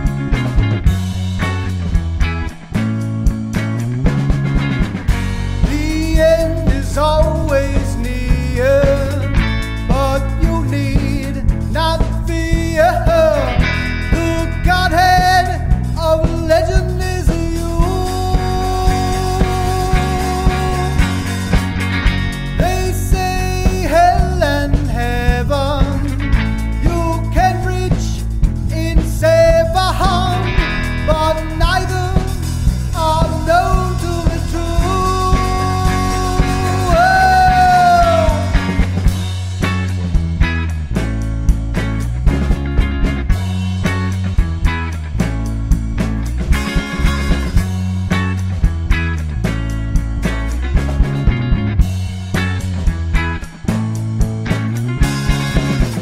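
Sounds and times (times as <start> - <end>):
bass: 0.0 - 56.0
drum hits: 0.0 - 56.0
rock band playing: 0.0 - 56.0
sliding lead guitar melody: 0.0 - 56.0.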